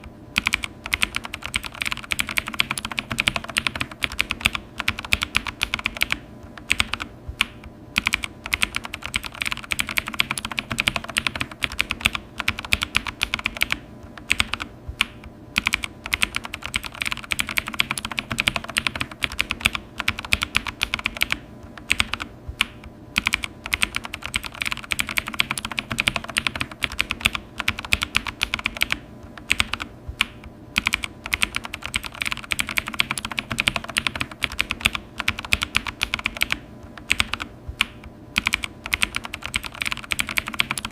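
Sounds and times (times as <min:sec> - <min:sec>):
keyboard typing: 0:00.0 - 0:40.9.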